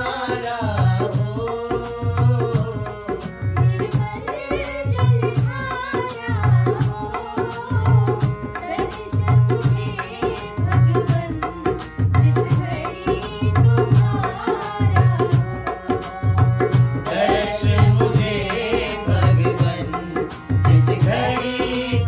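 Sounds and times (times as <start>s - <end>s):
harmonium: 0.0s - 22.0s
women singing devotional song: 0.0s - 22.0s.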